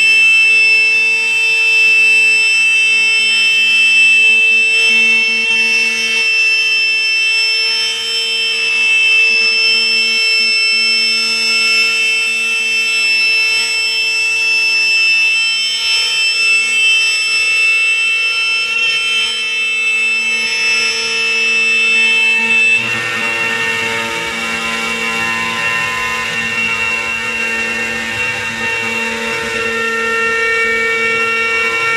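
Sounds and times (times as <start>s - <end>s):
cnc router spindle whining: 0.0s - 31.9s.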